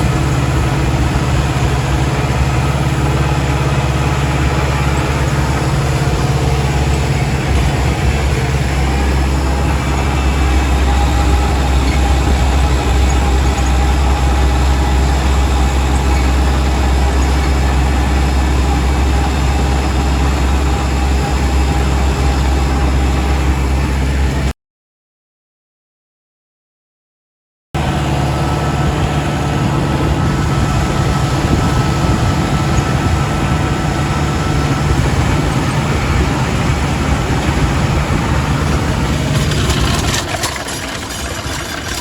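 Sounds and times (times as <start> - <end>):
tractor diesel engine running: 0.0 - 24.5, 27.8 - 42.0.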